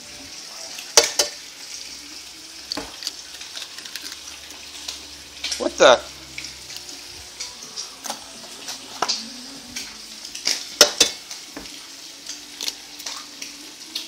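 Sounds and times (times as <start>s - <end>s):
eggs sizzling in a pan: 0.0s - 14.0s.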